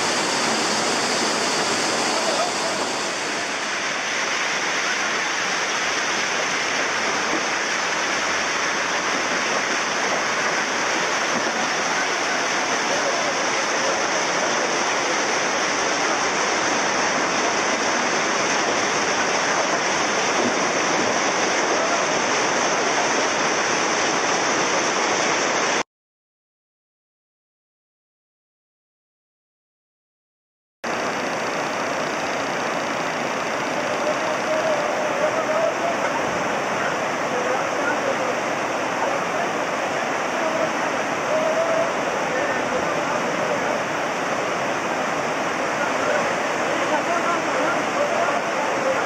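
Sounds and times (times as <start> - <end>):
river rushing over rocks: 0.0 - 25.8, 30.9 - 49.0.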